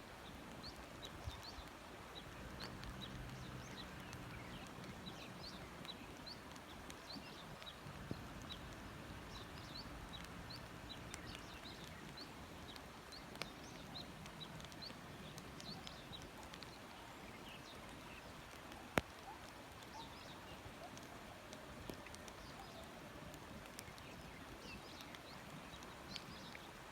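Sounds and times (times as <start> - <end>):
light rain hiss: 0.0 - 26.9.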